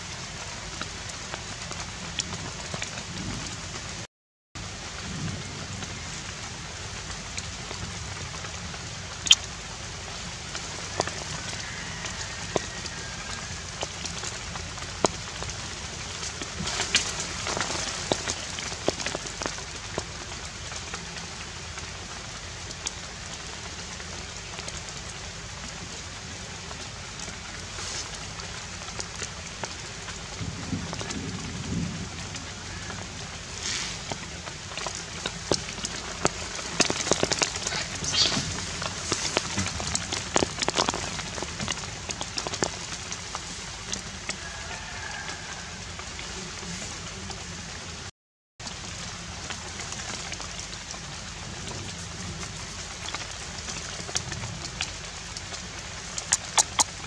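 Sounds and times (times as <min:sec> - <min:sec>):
steady outdoor hiss: 0:00.0 - 0:04.0, 0:04.6 - 0:48.1, 0:48.7 - 0:57.0.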